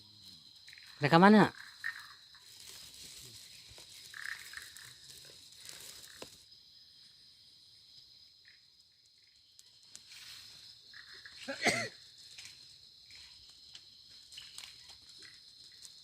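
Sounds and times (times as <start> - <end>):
soft frog calls: 0.0 - 7.2, 8.0 - 16.0
high insect drone: 0.0 - 16.0.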